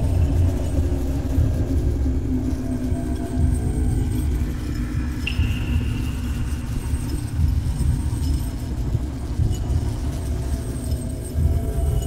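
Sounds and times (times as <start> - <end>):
deep rumbling drone: 0.0 - 12.0.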